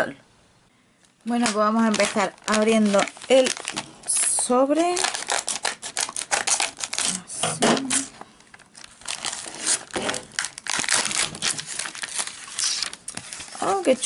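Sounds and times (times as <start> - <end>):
plastic wrapper crinkling: 1.2 - 14.0.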